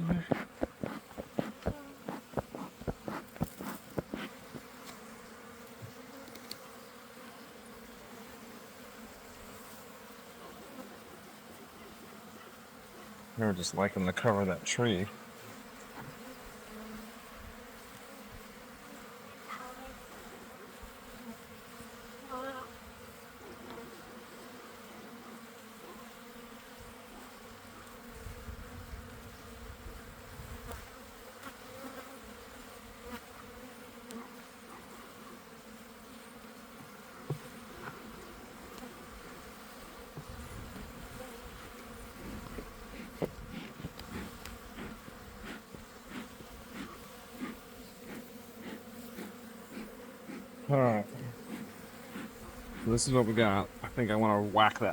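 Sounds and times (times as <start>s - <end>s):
honeybees buzzing: 0.0s - 54.9s.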